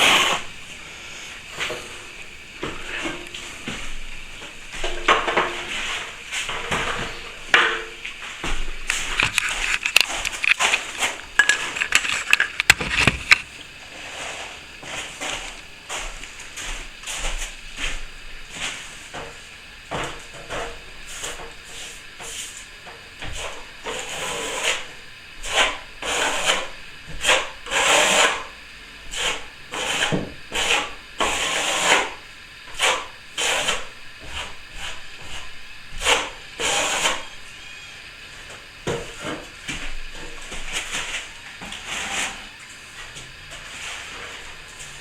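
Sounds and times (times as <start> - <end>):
plastering tool scraping plaster: 0.0 - 19.3, 23.2 - 28.5, 29.1 - 37.4, 38.8 - 45.0.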